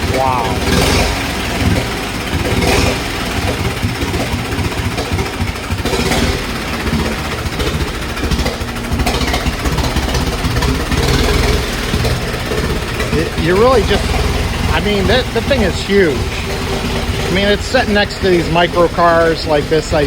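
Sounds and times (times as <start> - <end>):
large engine idling roughly: 0.0 - 20.0.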